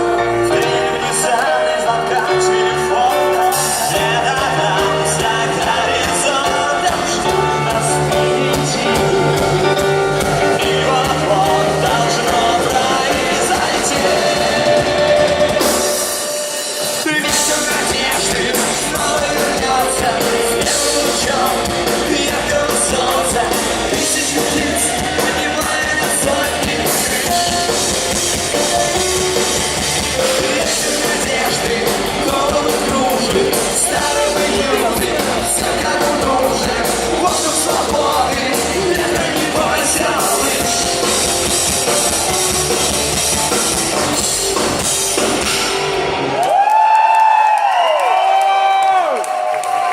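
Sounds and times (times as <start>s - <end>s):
rock band playing live: 0.0s - 48.4s.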